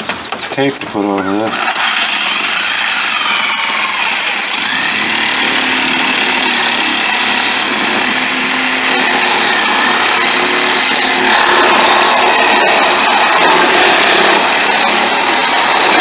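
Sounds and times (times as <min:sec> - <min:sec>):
power tool cutting metal: 0:01.0 - 0:16.0.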